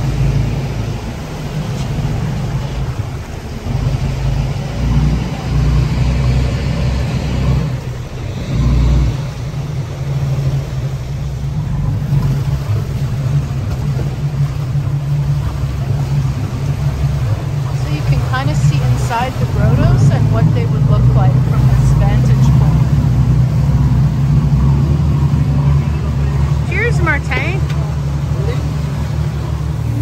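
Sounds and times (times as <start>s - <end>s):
boat engine humming: 0.0s - 30.0s
heavy low rumbles: 0.0s - 30.0s
water wash: 0.0s - 30.0s.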